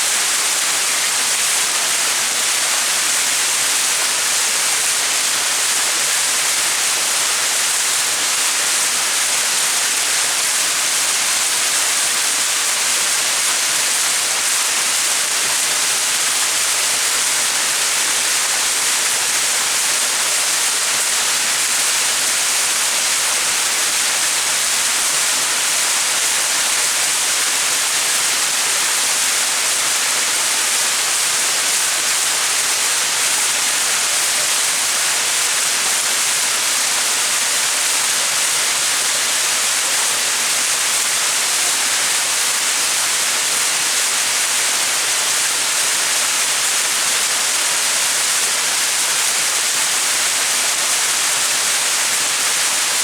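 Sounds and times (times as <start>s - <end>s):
waterfall splashing: 0.1s - 53.0s.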